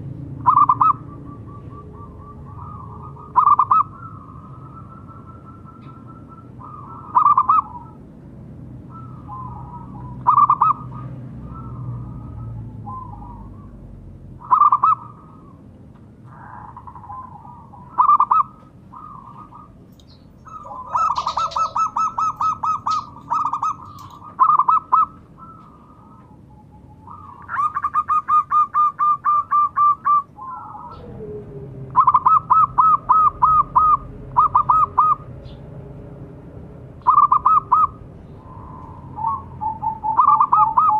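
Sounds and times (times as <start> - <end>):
dove cooing: 0.4 - 8.0, 8.9 - 35.6, 37.0 - 40.9
faint bird calls: 0.4 - 8.1, 8.8 - 35.7, 37.0 - 40.9.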